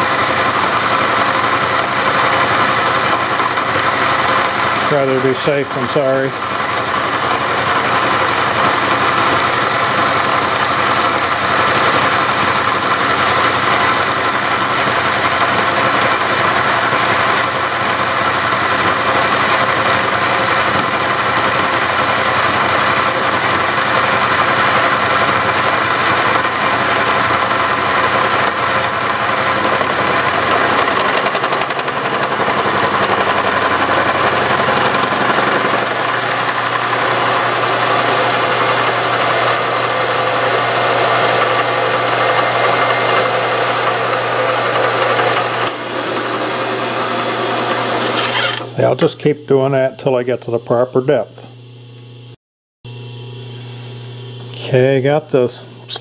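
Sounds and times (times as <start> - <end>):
milling machine cutting metal: 0.0 - 49.4.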